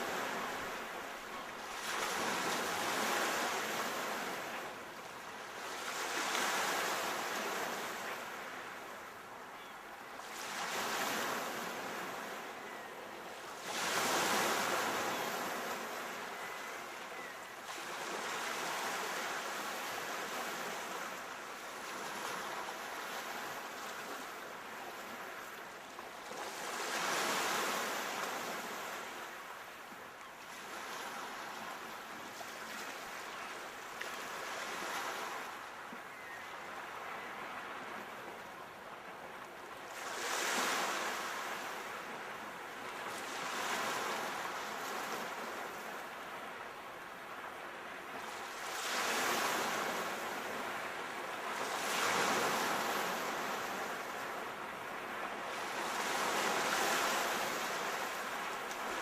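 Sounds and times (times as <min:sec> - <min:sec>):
sea waves breaking on shore: 0:00.0 - 0:09.3, 0:10.0 - 0:59.0.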